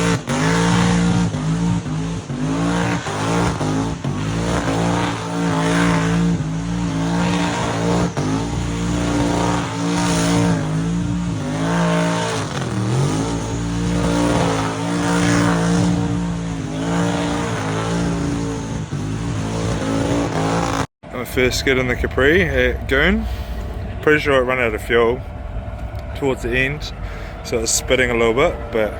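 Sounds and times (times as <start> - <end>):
car engine at high revs: 0.0 - 28.9
spinning tyres hissing: 0.0 - 28.9.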